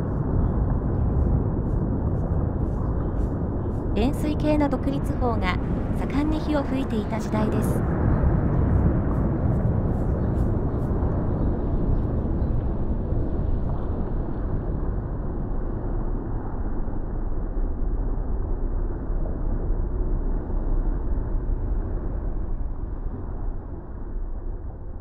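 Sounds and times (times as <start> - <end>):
deep rumbling of volcanic eruption: 0.0 - 25.0.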